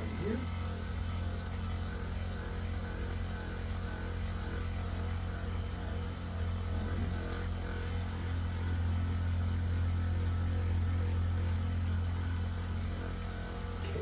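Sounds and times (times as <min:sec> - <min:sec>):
electric massager buzzing: 0:00.0 - 0:14.0.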